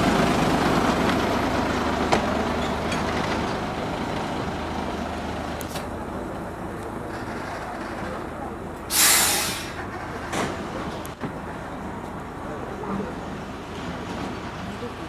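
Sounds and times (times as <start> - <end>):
diesel locomotive engine running: 0.0 - 15.0
wheels clicking on rails: 0.0 - 15.0.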